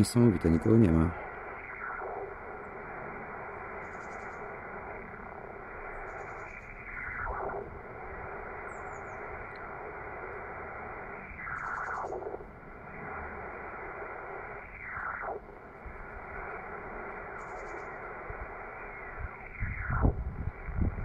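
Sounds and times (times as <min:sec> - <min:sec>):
radio static hiss: 0:00.0 - 0:21.0
noise swish sweeping down: 0:01.2 - 0:21.0.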